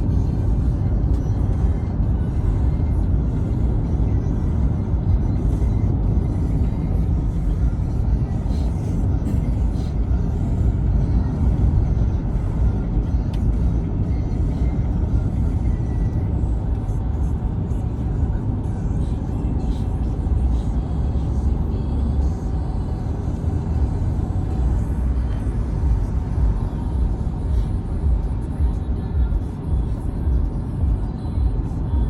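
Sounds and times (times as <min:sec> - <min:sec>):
car road and engine rumble: 0:00.0 - 0:32.0
music playing: 0:00.0 - 0:32.0.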